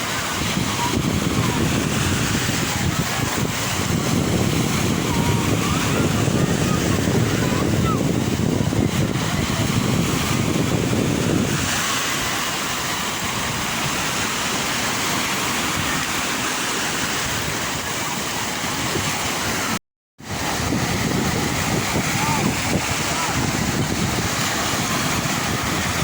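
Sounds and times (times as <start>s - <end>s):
sea waves washing on shore: 0.0s - 26.0s.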